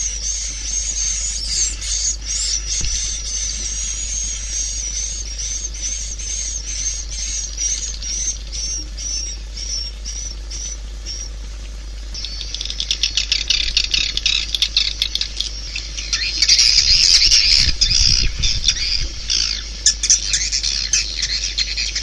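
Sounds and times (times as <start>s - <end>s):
rapid bird twittering: 0.0s - 22.0s.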